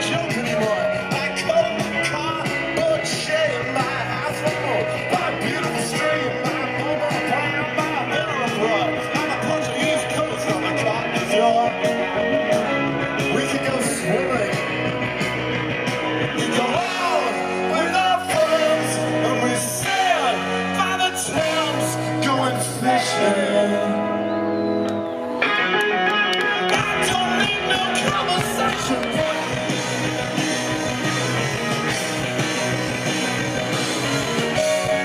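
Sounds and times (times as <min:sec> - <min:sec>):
man singing: 0:00.0 - 0:15.0, 0:16.2 - 0:24.4, 0:26.4 - 0:32.4
live rock band playing: 0:00.0 - 0:35.0.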